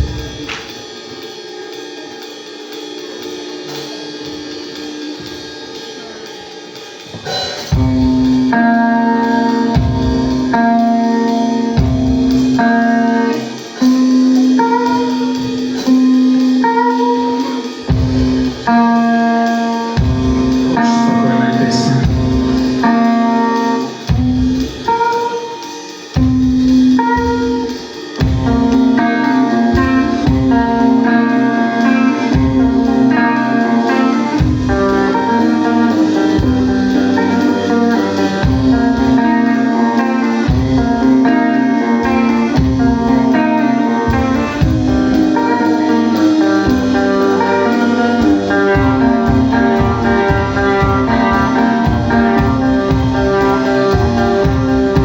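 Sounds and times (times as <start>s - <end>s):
rock band playing instrumental: 0.0s - 55.0s.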